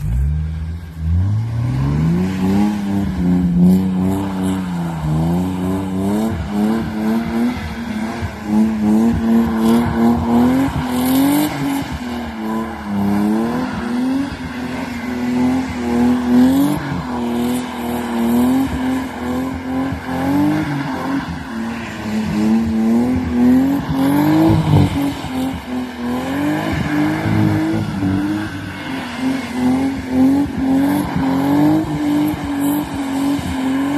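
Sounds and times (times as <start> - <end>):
car engine revving hard: 0.0 - 33.9.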